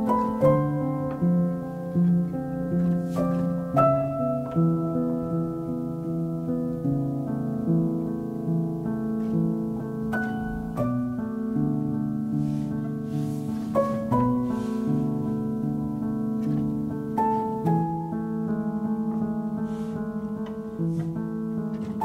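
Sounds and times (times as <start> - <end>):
gentle instrumental music: 0.0 - 22.0.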